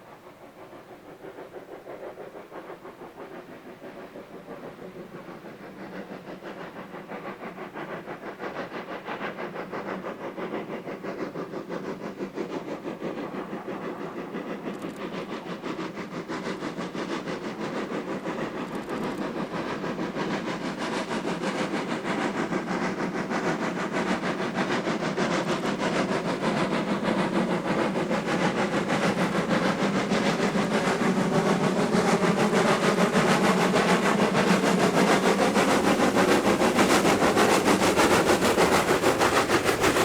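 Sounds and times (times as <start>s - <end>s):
steam locomotive exhaust beating: 0.0s - 40.0s.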